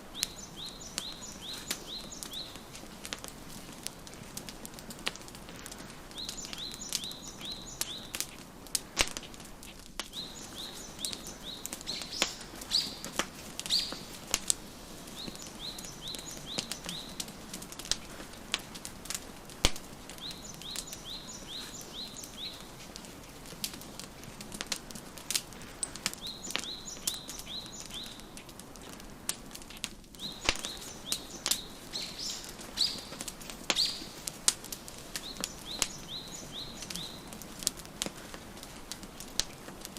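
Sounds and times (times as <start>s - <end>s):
songbirds chirping: 0.0s - 39.9s
wood fire crackling: 0.0s - 39.9s.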